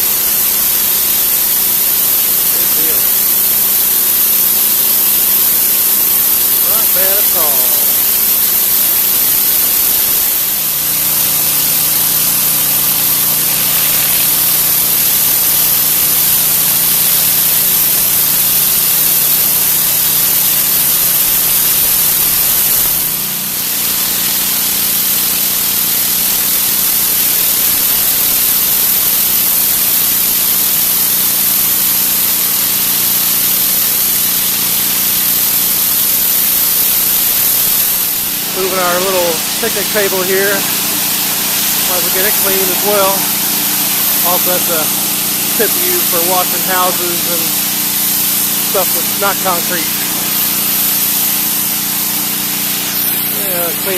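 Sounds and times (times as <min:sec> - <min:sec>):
pressure washer motor humming: 0:00.0 - 0:53.9
water jet spraying concrete: 0:00.0 - 0:53.9.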